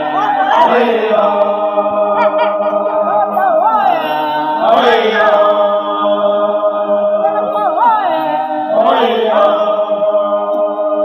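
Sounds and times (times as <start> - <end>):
group singing a cappella: 0.0 - 11.0.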